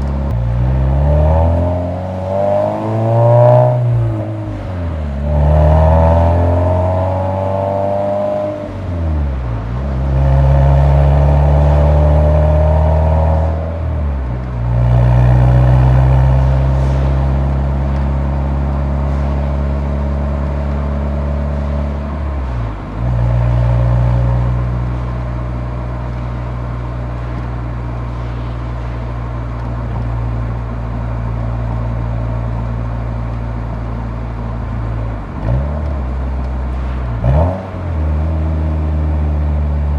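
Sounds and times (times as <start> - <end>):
car exhaust drone while driving: 0.0 - 39.9.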